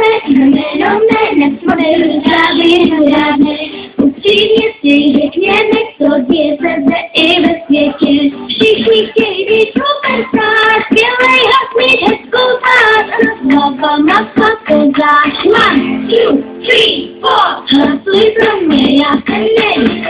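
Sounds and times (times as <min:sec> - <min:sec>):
children singing: 0:00.0 - 0:03.6, 0:04.2 - 0:20.0.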